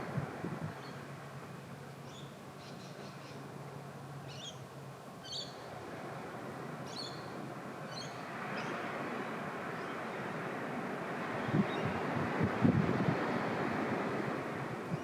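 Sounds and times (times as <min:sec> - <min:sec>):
distant water rushing: 0:00.0 - 0:15.0
wind: 0:00.0 - 0:15.0.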